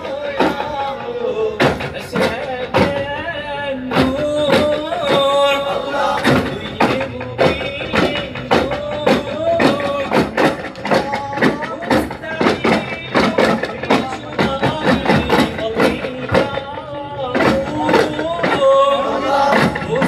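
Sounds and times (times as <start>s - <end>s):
men chanting in unison: 0.0s - 20.0s
frame drum strikes: 3.9s - 20.0s.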